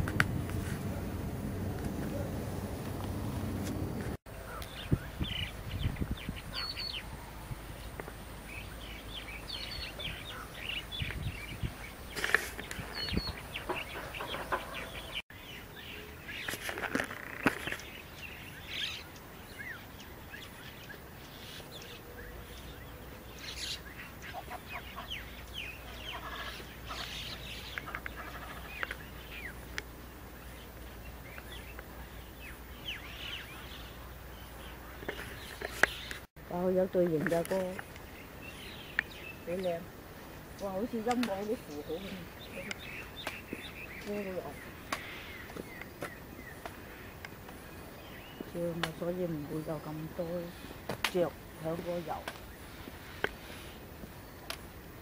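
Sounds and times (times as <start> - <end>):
birds chirping: 0.6 - 55.0.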